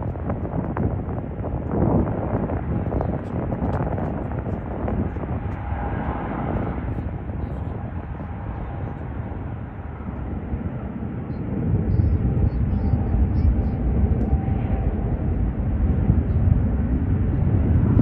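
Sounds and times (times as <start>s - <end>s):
faint engine whine: 0.0s - 18.0s
jet engine rushing: 0.0s - 18.0s.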